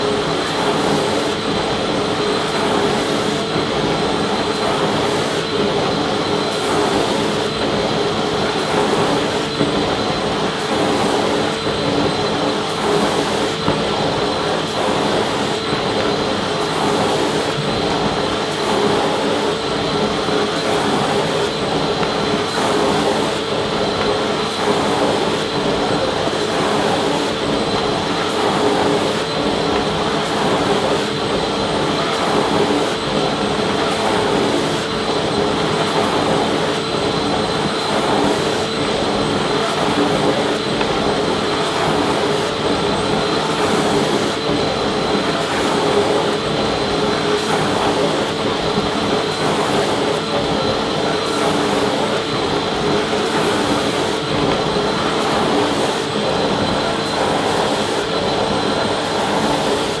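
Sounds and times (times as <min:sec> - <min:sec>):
vacuum cleaner running: 0:00.0 - 1:00.0.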